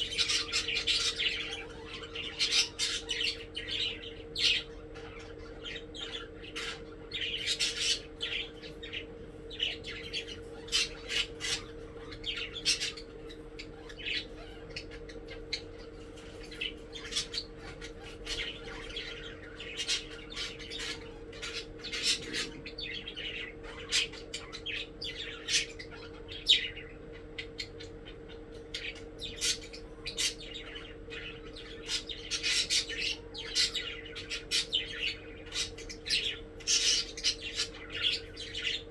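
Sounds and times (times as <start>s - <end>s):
budgerigars chirping and squawking: 0.0s - 38.9s
faint steady hum: 0.0s - 38.9s.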